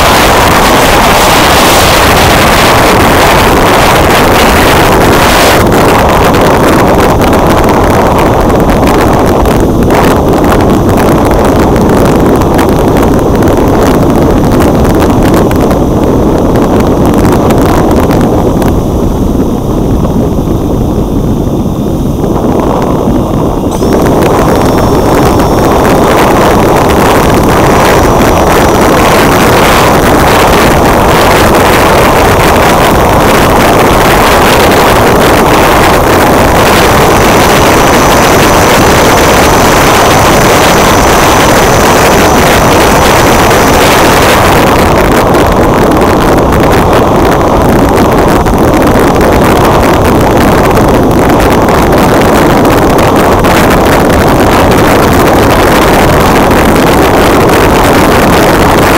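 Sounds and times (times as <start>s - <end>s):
faint high whine: 0.0s - 58.9s
wind rushing over microphone: 0.0s - 58.9s.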